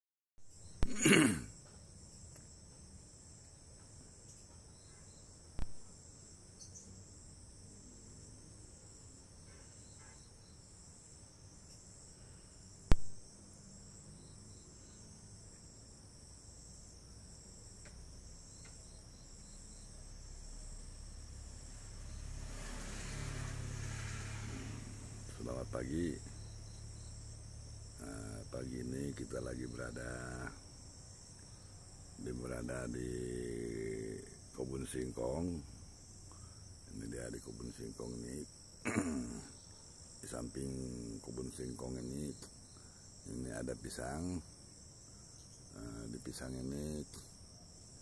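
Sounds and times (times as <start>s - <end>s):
insect trill: 0.4s - 48.0s.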